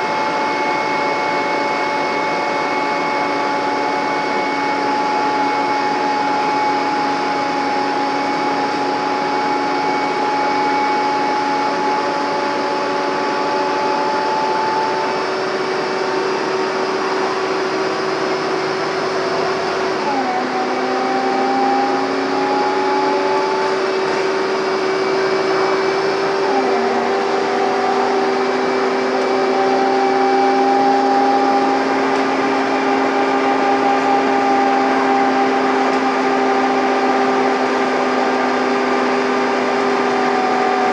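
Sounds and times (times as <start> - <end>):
bus diesel engine whining: 0.0 - 40.9.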